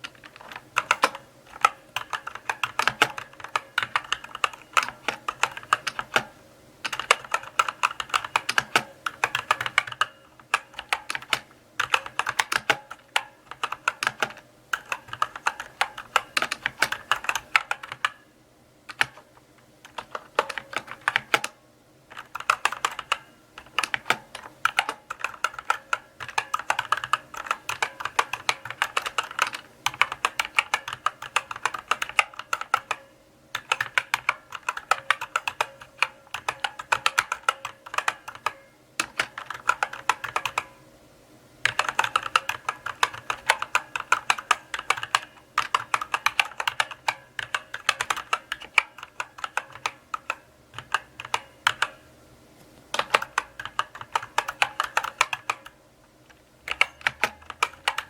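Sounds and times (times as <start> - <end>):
mechanical keyboard typing: 0.0 - 18.2, 18.9 - 40.8, 41.6 - 52.0, 52.9 - 58.0.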